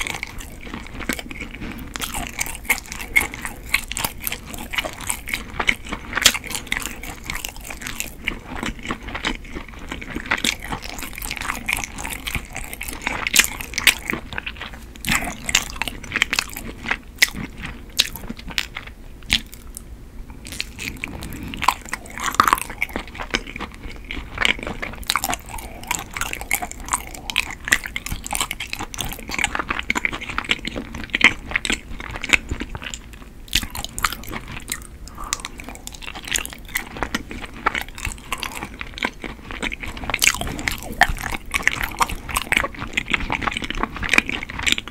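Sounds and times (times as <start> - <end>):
wet chewing and smacking: 0.0 - 44.9.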